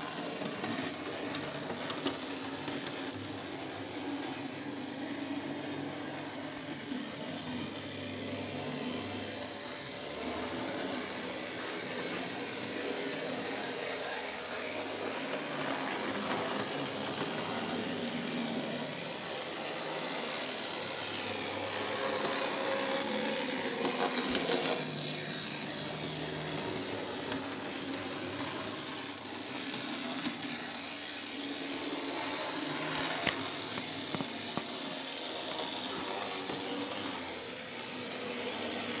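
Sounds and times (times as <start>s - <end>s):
model tram motor whirring: 0.0s - 39.0s.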